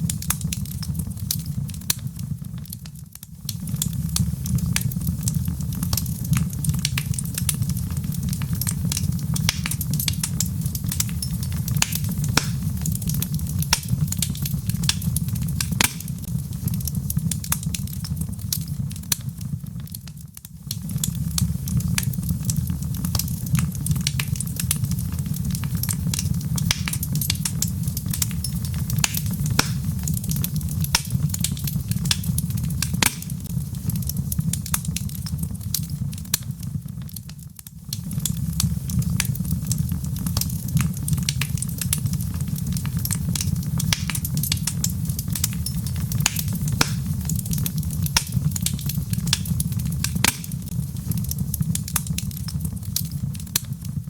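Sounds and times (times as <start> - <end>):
log fire crackling: 0.0 - 54.0
low roar of flame: 0.0 - 54.0
sharp pops of fire: 0.0 - 54.0.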